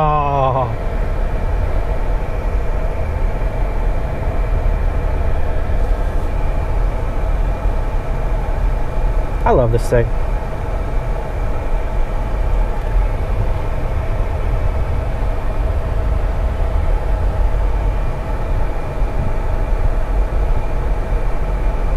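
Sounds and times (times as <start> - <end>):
air-conditioning blower rushing: 0.0 - 21.9
engine idling rumble: 0.0 - 21.9.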